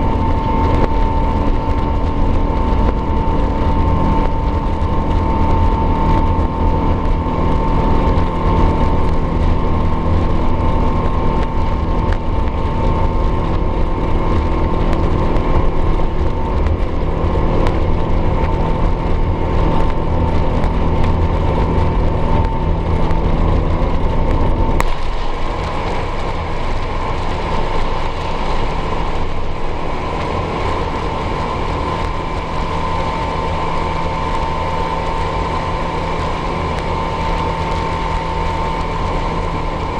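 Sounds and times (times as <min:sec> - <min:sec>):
jet engine whine in cabin: 0:00.0 - 0:39.9.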